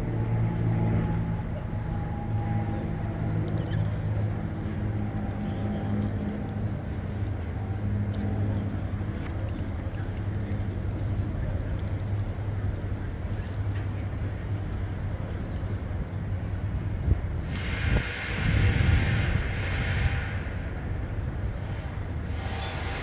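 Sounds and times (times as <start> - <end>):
city traffic hum: 0.0 - 23.0
engine running nearby: 0.0 - 23.0.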